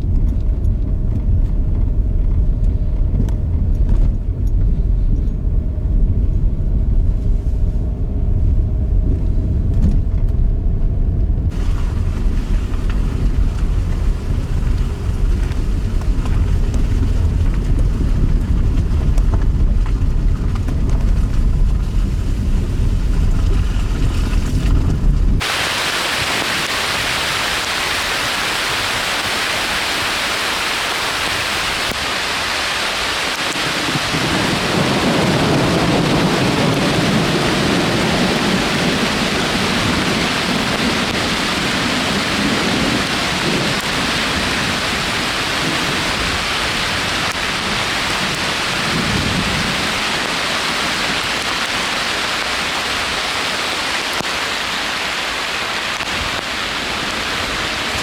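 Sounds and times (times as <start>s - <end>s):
thunder rumble: 0.0s - 58.0s
heavy rain: 11.3s - 58.0s.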